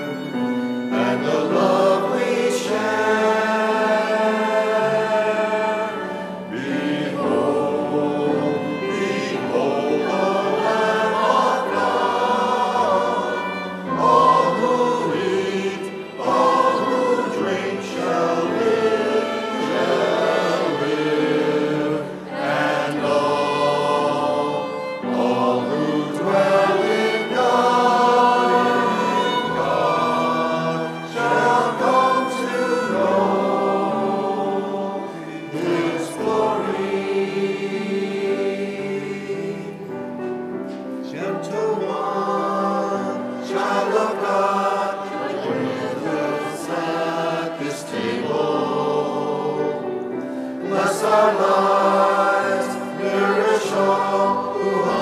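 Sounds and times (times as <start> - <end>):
church choir singing a hymn: 0.0 - 55.0.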